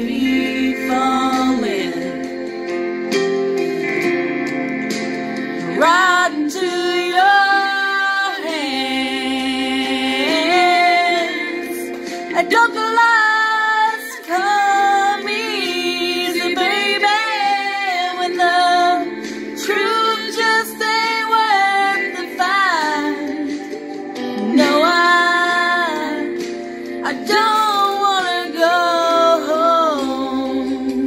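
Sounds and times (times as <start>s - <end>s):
woman singing a slow ballad: 0.0s - 2.9s, 5.4s - 31.0s
instrumental backing track: 0.0s - 31.0s.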